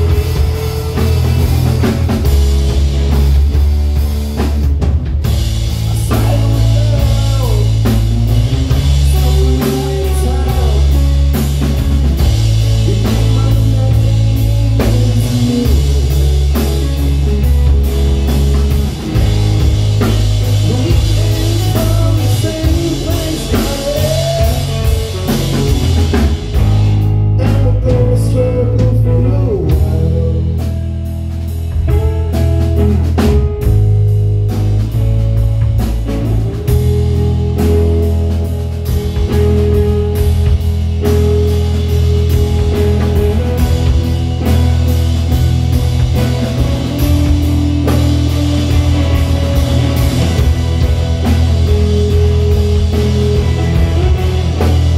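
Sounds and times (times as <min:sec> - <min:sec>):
drum kit: 0:00.0 - 0:54.9
electric guitars: 0:00.0 - 0:54.9
heavy bass line: 0:00.0 - 0:54.9.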